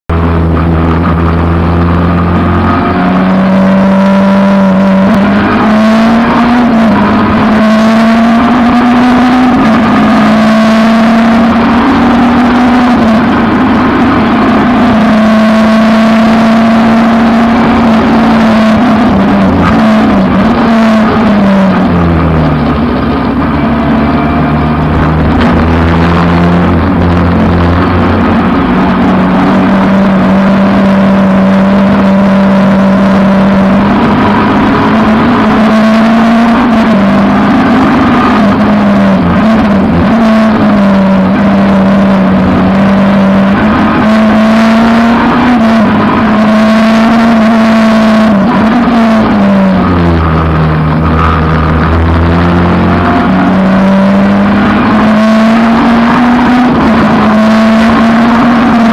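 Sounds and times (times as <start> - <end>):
race car engine at high revs: 0.0 - 58.9.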